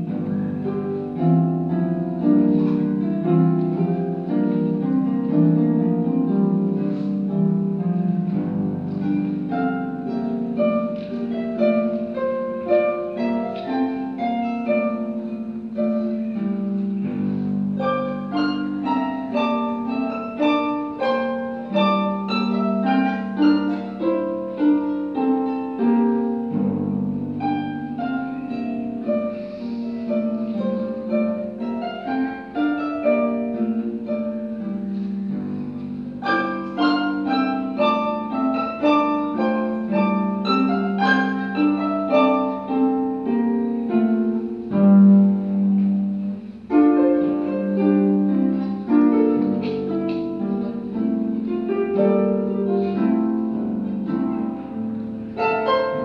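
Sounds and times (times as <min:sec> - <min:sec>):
harp playing: 0:00.0 - 0:56.0.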